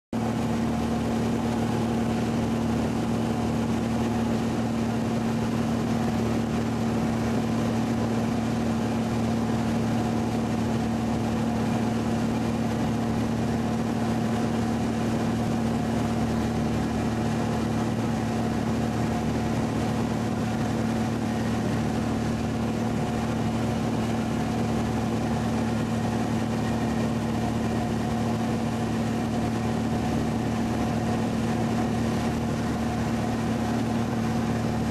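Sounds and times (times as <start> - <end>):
light airplane engine droning: 0.2 - 34.9.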